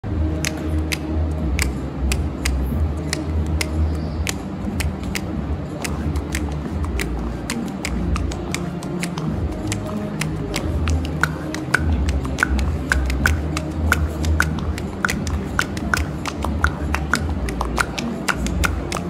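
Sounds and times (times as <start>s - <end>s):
steady low hum: 0.0s - 19.0s
juggling clubs slapping into hands: 0.4s - 19.0s.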